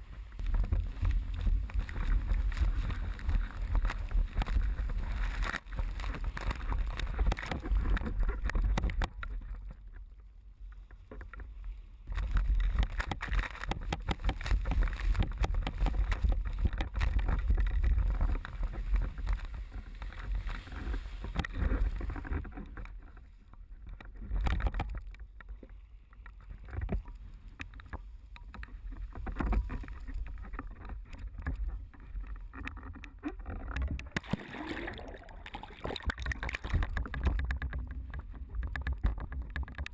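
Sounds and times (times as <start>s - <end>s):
water rushing and slapping against board: 0.0s - 10.0s, 11.0s - 39.9s.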